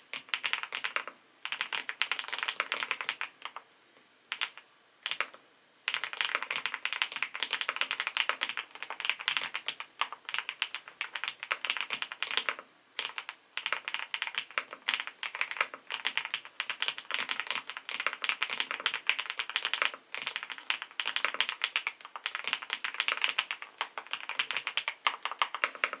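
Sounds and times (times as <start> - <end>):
mechanical keyboard typing: 0.1 - 3.6, 4.3 - 26.0.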